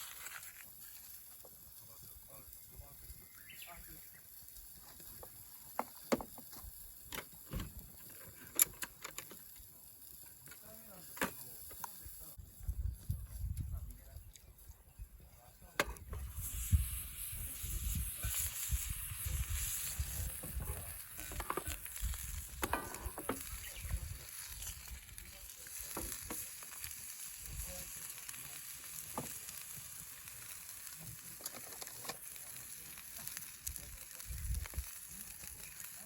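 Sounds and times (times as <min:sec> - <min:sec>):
campfire sizzling and crackling: 0:00.0 - 0:36.0.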